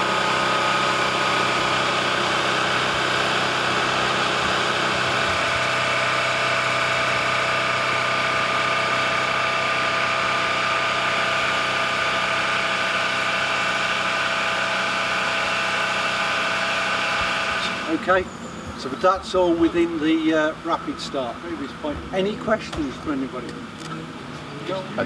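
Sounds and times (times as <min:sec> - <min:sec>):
machine whining and humming: 0:00.0 - 0:25.0.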